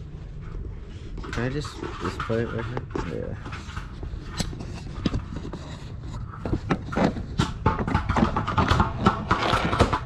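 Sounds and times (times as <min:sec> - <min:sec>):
irregular clicks and knocks: 0:01.2 - 0:10.0.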